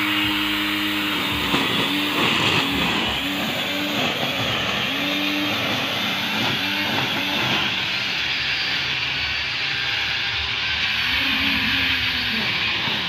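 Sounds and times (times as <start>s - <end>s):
grinder string trimmer cutting grass: 0.0s - 13.0s.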